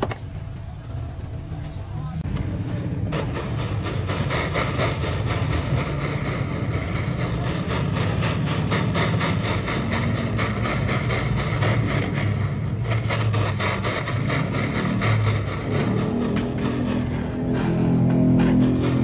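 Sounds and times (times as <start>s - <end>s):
rapid irregular clicking: 3.1s - 19.0s.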